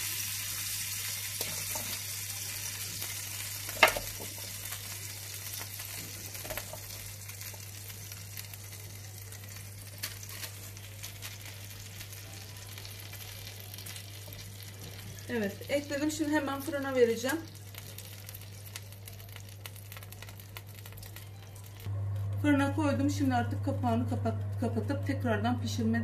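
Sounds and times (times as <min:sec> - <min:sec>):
fat sizzling on roasting tray: 0:00.0 - 0:25.8.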